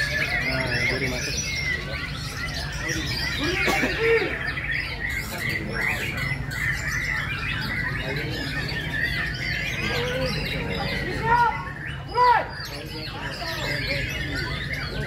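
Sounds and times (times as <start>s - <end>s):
chorus of songbirds singing: 0.0s - 15.0s
loud bird call: 0.0s - 15.0s.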